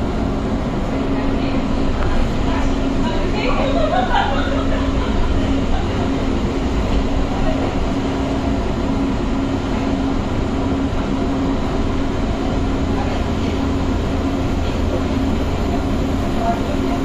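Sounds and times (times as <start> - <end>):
low hum: 0.0 - 17.0
train wheels rumbling on rail: 0.0 - 17.0.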